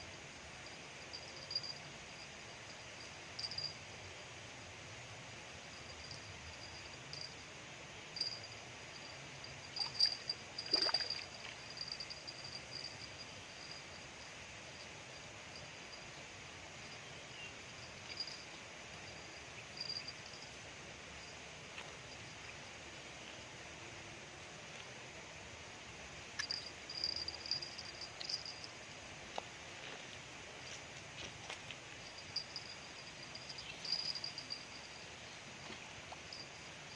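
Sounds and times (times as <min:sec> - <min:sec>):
insects chirping: 0:00.0 - 0:36.9
outdoor background noise: 0:00.0 - 0:36.9.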